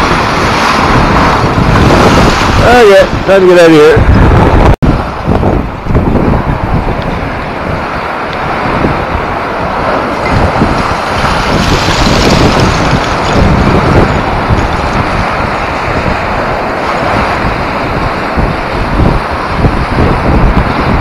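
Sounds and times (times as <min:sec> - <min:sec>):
water spraying up: 0:00.0 - 0:03.8, 0:06.3 - 0:21.0
lake waves rushing under ice: 0:00.0 - 0:21.0
wind buffeting microphone: 0:00.0 - 0:21.0.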